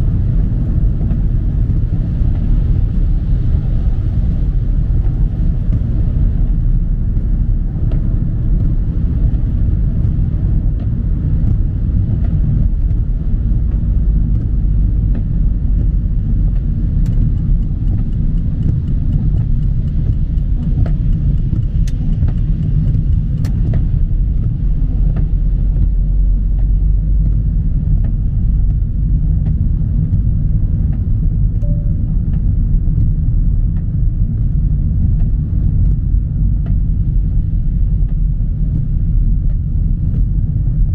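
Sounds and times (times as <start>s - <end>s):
tyres and engine rumble: 0.0s - 40.9s.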